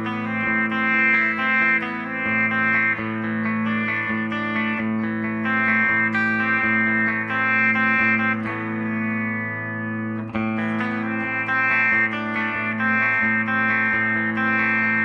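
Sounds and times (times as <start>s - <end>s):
clean electric guitar chords strummed: 0.0s - 15.0s.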